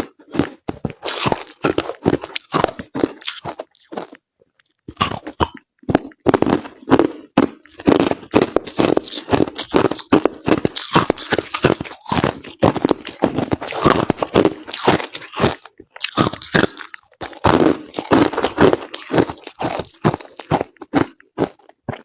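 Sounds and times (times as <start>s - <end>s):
ice being chewed: 0.0s - 22.0s.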